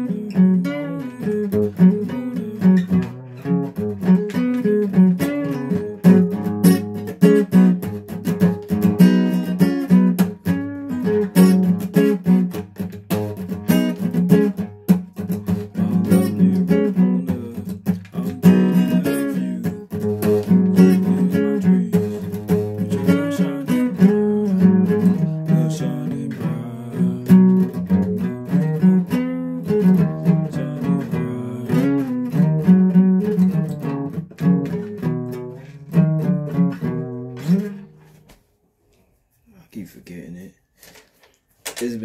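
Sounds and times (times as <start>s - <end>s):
solo guitar playing: 0.0s - 38.2s.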